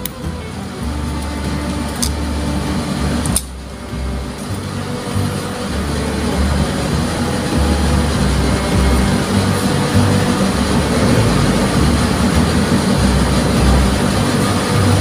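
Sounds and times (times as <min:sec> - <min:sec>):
background music with deep bass: 0:00.0 - 0:15.0.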